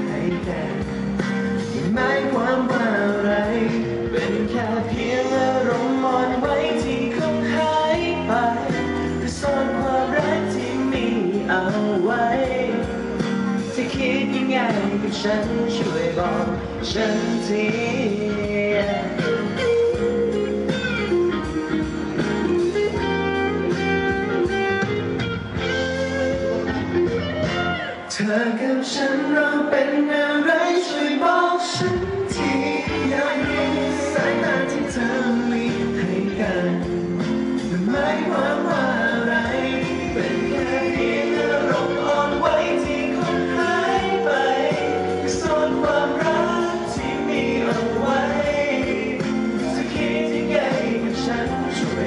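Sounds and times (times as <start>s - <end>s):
people singing into a microphone: 0.0s - 19.9s, 28.1s - 52.0s
guitar-led pop band music: 0.0s - 52.0s.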